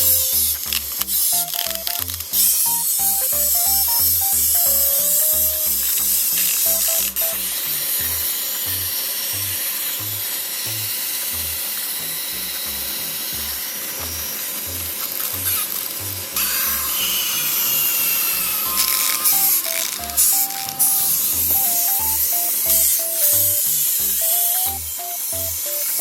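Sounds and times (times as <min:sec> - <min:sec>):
music with bass beat: 0:00.0 - 0:26.0
wind-up toy clockwork whirring: 0:00.0 - 0:26.0.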